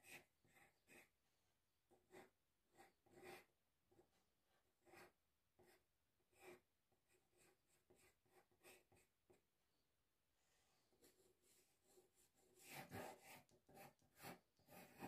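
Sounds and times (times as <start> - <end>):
pencil strokes on paper: 0.0 - 1.2, 1.9 - 9.4, 10.5 - 15.0.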